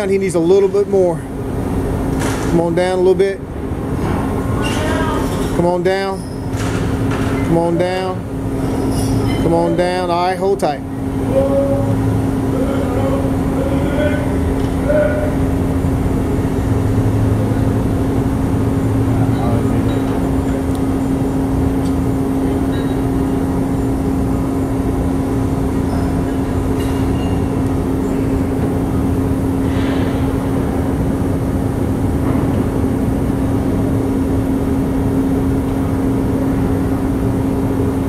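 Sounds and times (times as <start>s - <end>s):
heavy machinery drone: 0.0s - 38.0s.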